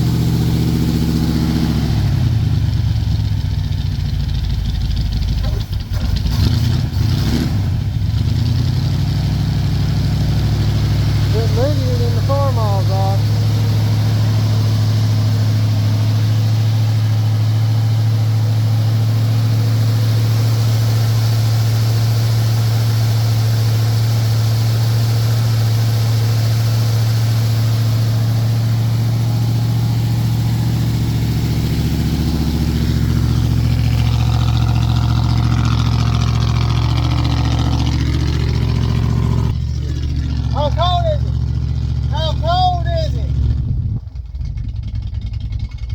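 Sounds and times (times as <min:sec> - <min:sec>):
pickup engine idling: 0:00.0 - 0:07.1, 0:07.7 - 0:45.9.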